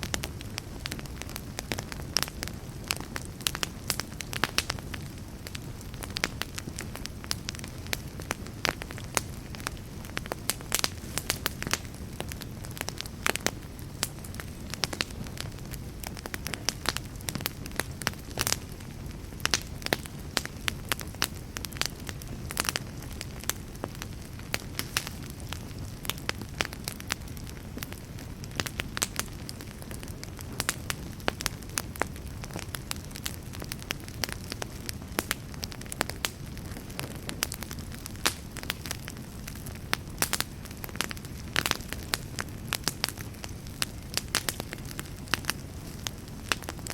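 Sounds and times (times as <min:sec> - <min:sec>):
low rumble of flame: 0:00.0 - 0:46.9
wood crackling and popping: 0:00.0 - 0:46.9.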